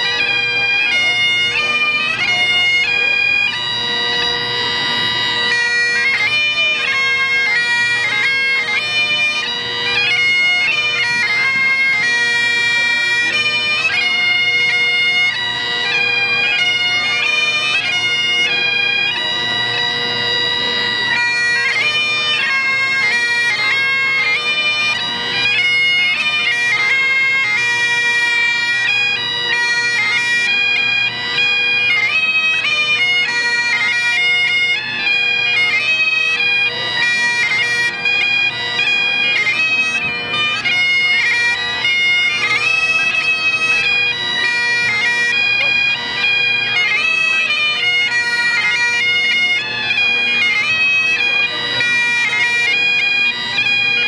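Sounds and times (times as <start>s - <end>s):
bagpipes playing: 0.0s - 54.0s.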